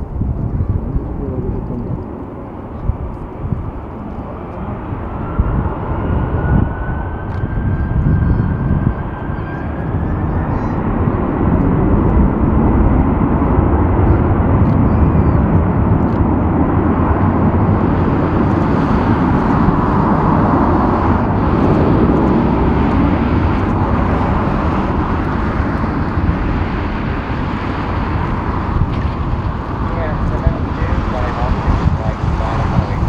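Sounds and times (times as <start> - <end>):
jet engines roaring at takeoff: 0.0 - 33.0.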